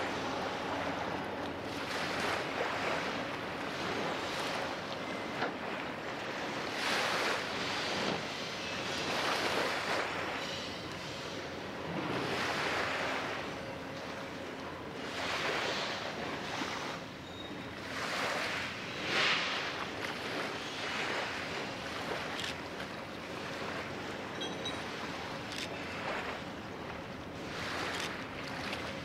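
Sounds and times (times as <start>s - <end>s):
small waves washing on shore: 0.0s - 29.0s.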